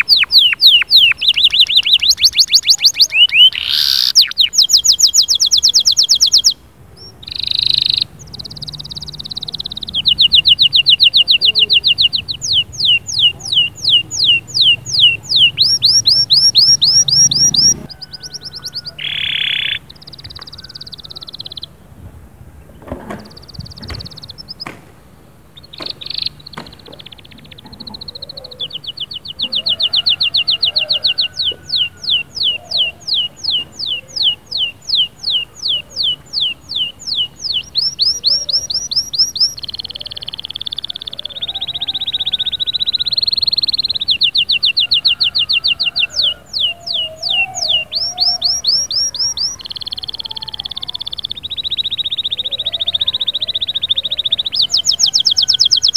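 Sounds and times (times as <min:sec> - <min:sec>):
canary singing: 0:00.0 - 0:22.0, 0:22.6 - 0:55.9.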